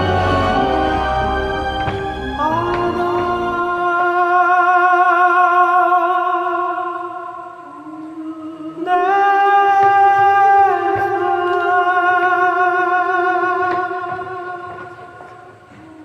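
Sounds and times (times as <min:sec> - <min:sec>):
dramatic music with wordless vocals: 0:00.0 - 0:16.0.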